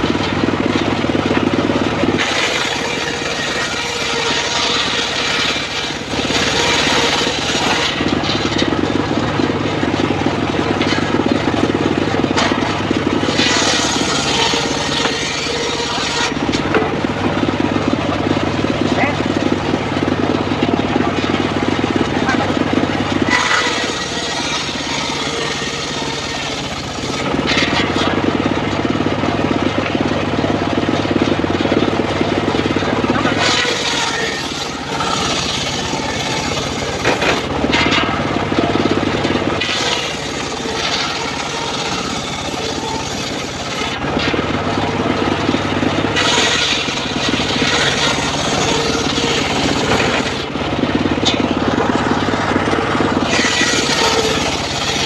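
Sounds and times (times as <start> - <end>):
circular saw blade sawing log: 0.0 - 55.0
engine drone: 0.0 - 55.0.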